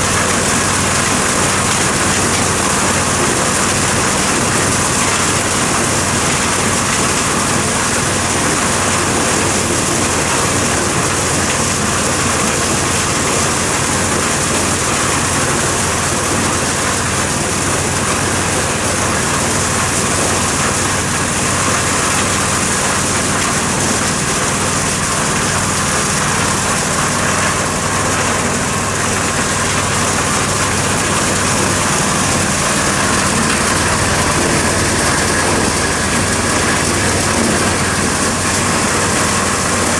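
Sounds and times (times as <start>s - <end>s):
engine hum: 0.0s - 39.9s.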